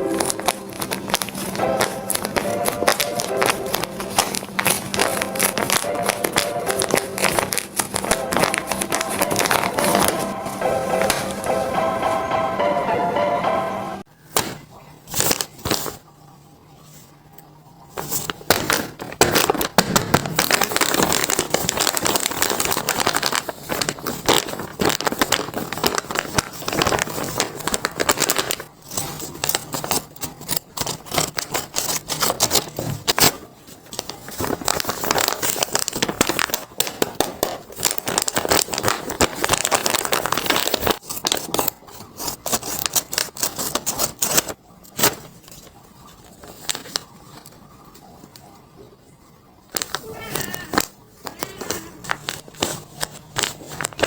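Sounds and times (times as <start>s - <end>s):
paper crinkling and crackling: 0.0s - 11.6s, 14.2s - 54.0s.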